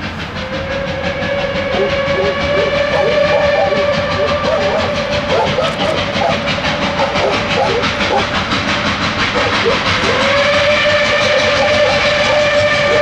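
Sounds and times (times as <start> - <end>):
steam locomotive exhaust chuffing: 0.0 - 13.0
steam whistle: 0.0 - 13.0.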